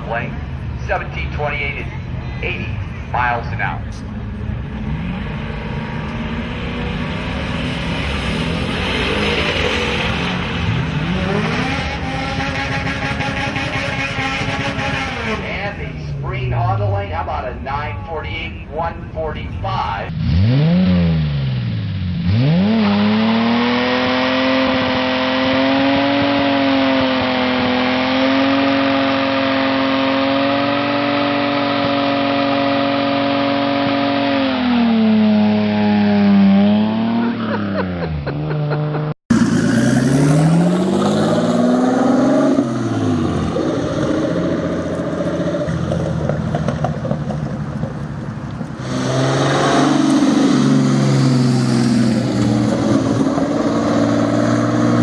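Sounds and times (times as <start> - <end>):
car engine revving: 0.0 - 55.0
turbocharged car revving: 0.0 - 55.0.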